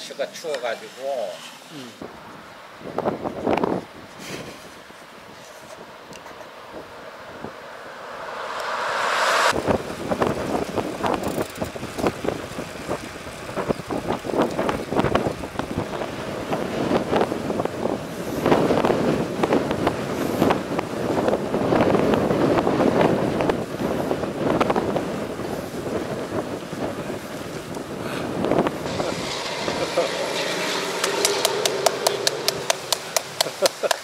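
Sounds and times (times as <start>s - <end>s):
strong wind gusting over microphone: 2.0s - 33.4s.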